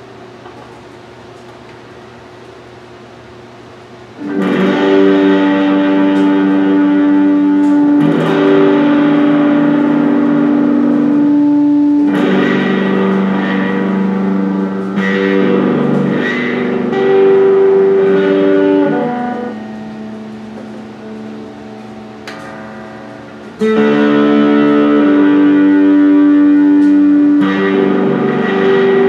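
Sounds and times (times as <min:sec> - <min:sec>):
faint amplifier hum: 0:00.0 - 0:29.0
electric guitar chords strummed: 0:04.1 - 0:29.0.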